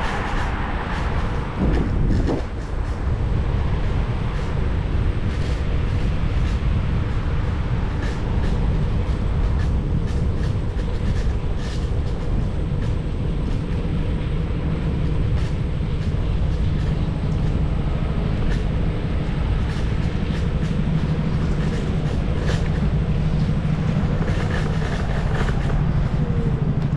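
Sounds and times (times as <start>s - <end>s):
scooter clicks and rattles: 0.0s - 26.9s
wind and road noise rumble: 0.0s - 26.9s.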